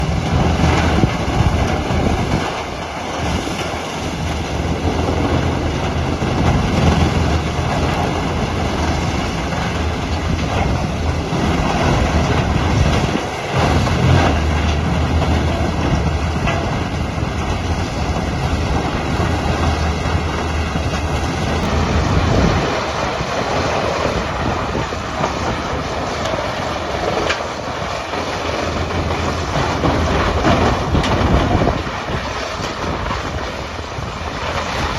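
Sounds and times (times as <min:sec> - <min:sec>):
engine humming: 0:00.0 - 0:34.9.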